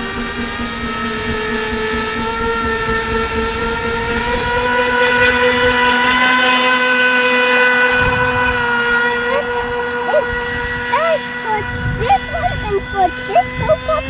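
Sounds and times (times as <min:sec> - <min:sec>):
electric motor high whine: 0:00.0 - 0:14.0.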